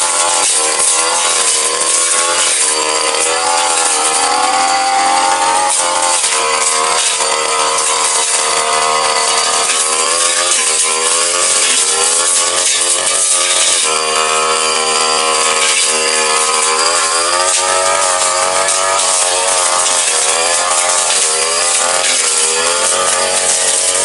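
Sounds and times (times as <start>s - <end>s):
blade cutting grass: 0.0s - 24.0s
brush cutter engine revving: 0.0s - 24.0s.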